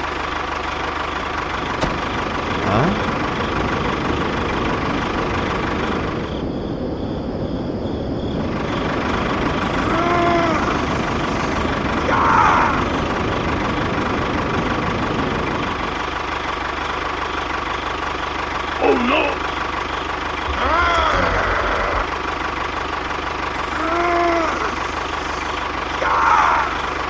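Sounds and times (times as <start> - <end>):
engine-like running noise: 0.0 - 27.0.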